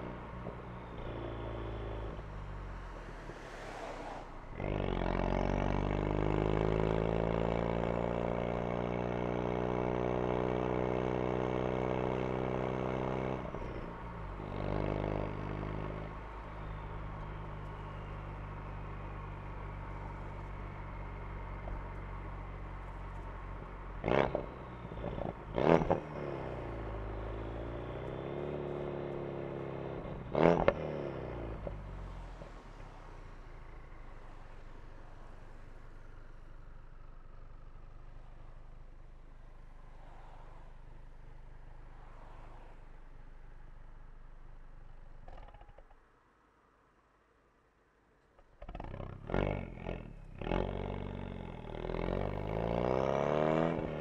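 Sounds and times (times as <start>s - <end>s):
car engine accelerating: 0.0s - 46.1s, 48.2s - 54.0s.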